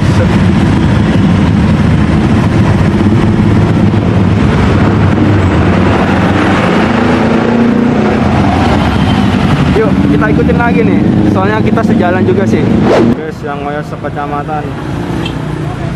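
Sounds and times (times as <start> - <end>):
busy road traffic: 0.0 - 15.9.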